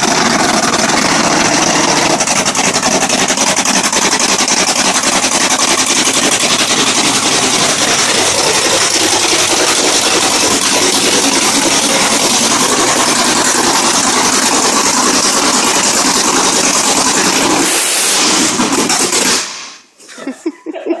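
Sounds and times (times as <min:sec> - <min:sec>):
car engine running loud: 0:00.0 - 0:19.9.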